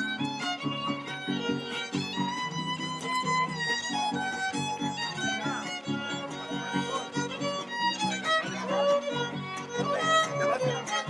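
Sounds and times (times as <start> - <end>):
fiddle melody: 0.0 - 11.0
strummed chords: 0.0 - 11.0.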